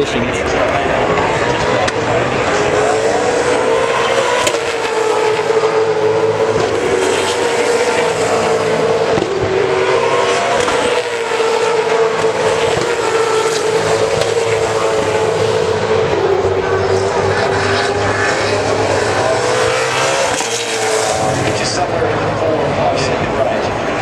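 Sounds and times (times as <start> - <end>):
race car engines passing: 0.0 - 24.0.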